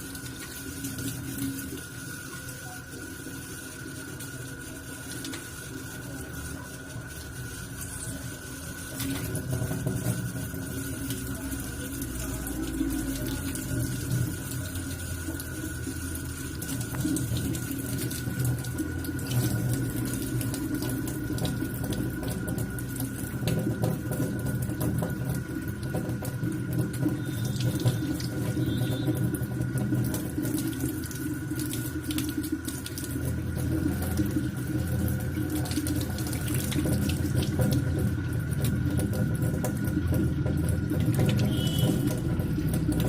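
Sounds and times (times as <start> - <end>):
thin steady tone: 0.0 - 40.5, 41.4 - 43.0
water running: 0.0 - 43.0.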